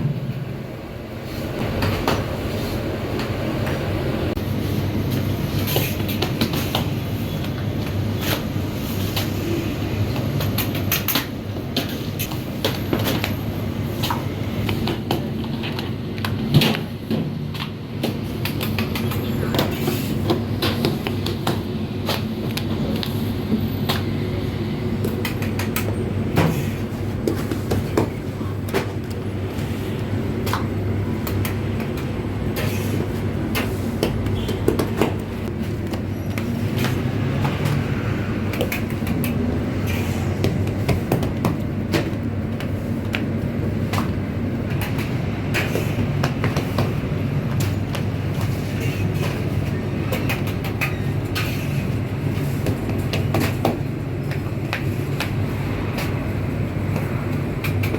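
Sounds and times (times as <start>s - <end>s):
bakery machinery humming: 0.0s - 57.9s.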